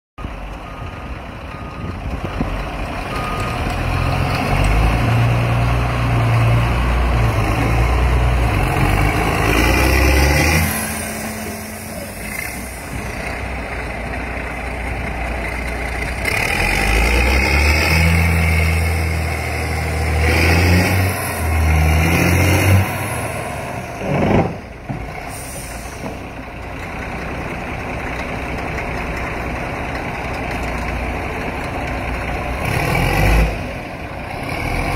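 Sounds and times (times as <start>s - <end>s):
diesel engine revving: 0.4s - 34.9s.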